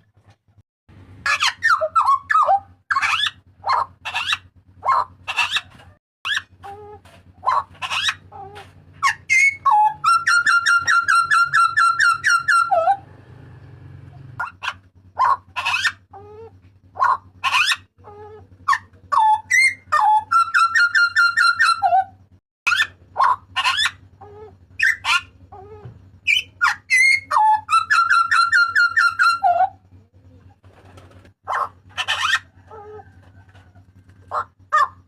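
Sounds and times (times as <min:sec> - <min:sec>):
butcherbird calls: 0:01.2 - 0:35.0.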